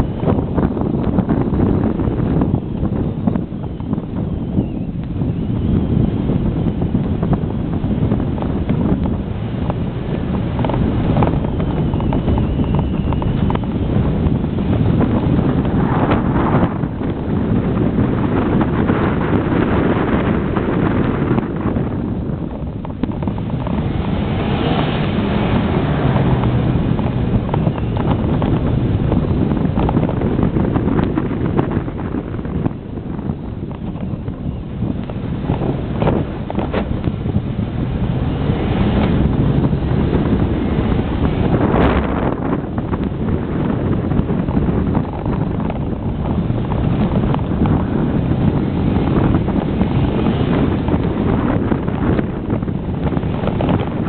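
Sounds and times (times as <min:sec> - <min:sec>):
truck engine rumble: 0:00.0 - 0:54.0
wind buffeting microphone: 0:00.0 - 0:54.0.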